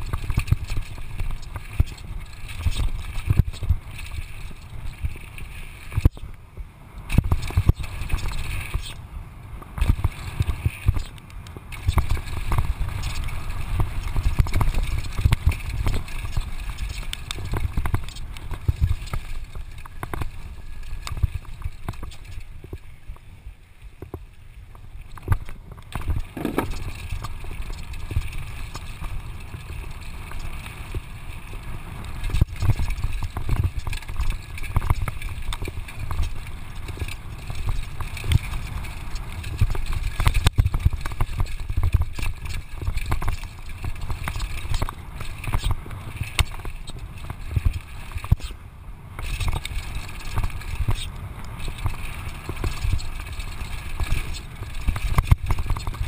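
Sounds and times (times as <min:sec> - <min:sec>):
bike rattling over gravel: 0:00.0 - 0:56.0
wind buffeting microphone: 0:00.0 - 0:56.0.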